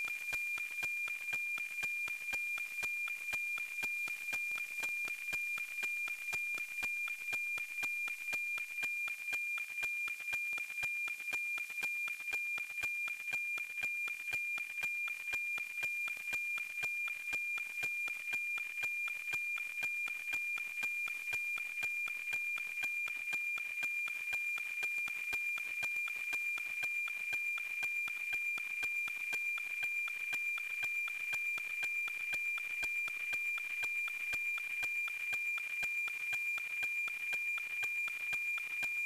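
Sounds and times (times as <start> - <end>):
regular tick-tock pulsing: 0.0 - 39.0.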